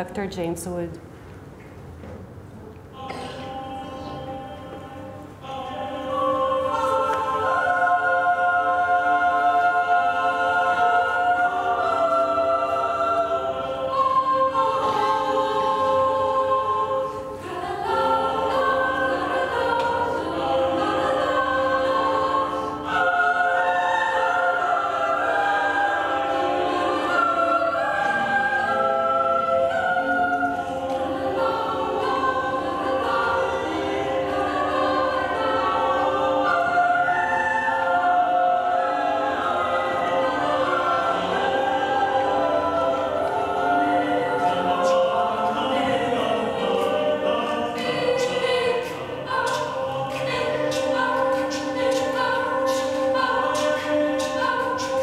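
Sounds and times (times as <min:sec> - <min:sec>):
choir singing over speakers: 0:02.7 - 0:55.0.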